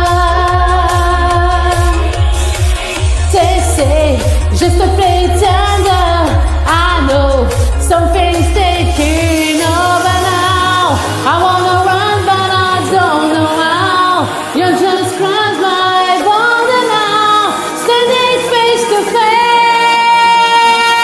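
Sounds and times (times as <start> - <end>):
pop backing track with beat: 0.0 - 21.0
woman singing sliding notes: 0.0 - 21.0.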